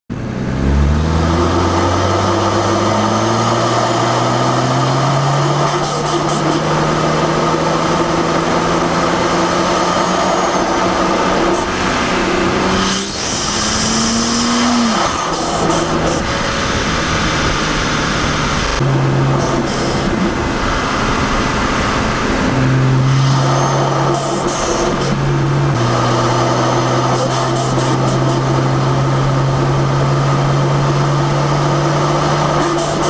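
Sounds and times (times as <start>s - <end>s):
short rising whine: 0.6s - 32.6s
engine intake rushing: 1.6s - 33.0s
high hissing rush: 1.8s - 33.0s.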